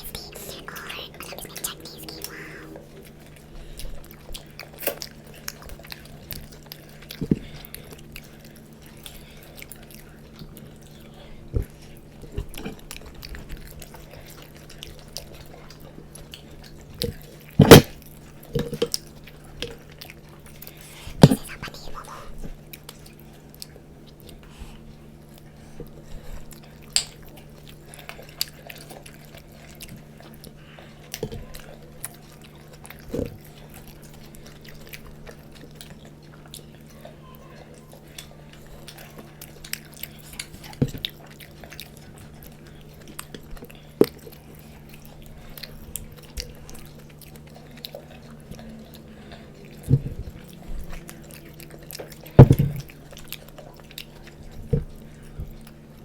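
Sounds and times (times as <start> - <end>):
people chewing food: 0.0 - 56.0.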